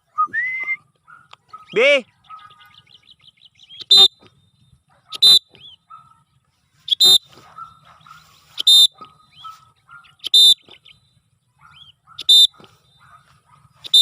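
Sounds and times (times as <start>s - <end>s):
small birds chirping: 0.8s - 14.0s.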